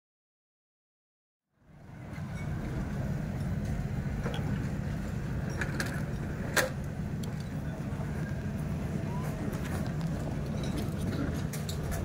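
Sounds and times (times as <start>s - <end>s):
low rumble: 1.6s - 12.0s.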